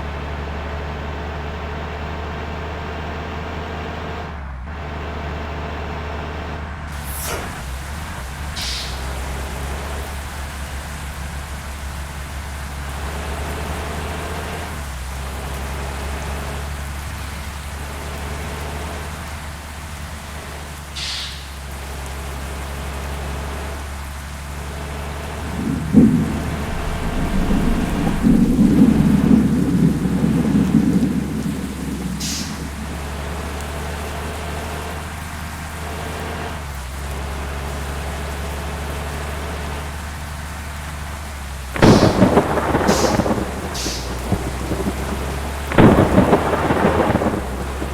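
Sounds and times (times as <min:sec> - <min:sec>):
bus engine low drone: 0:00.0 - 0:47.9
heavy rain falling: 0:00.0 - 0:47.9.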